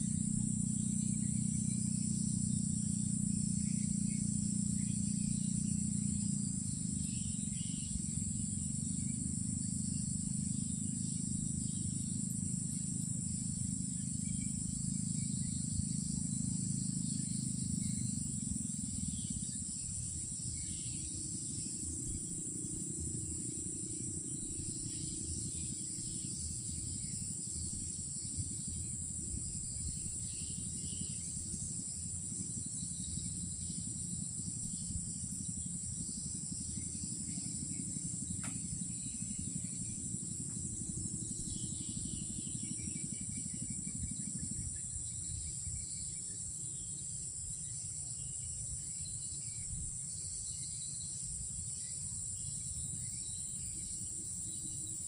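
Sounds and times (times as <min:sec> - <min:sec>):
insects trilling: 0:00.0 - 0:55.0
low rumbling background noise: 0:00.0 - 0:55.0.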